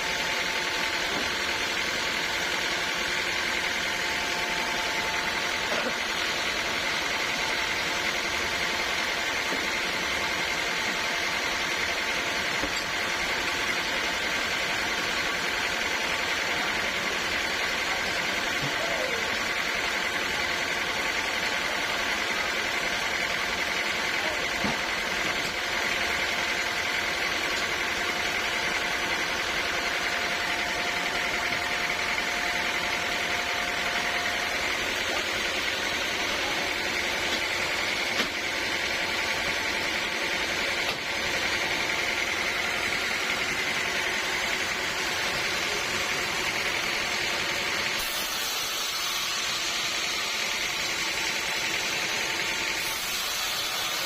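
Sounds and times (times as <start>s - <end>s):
sawmill machine drone with whine: 0.0s - 54.0s.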